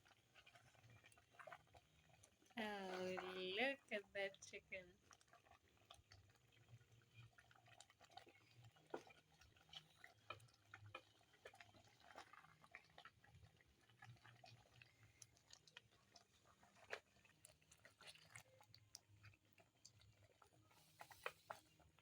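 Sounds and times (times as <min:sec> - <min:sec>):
food crackling in a hot pan: 0:00.0 - 0:22.0.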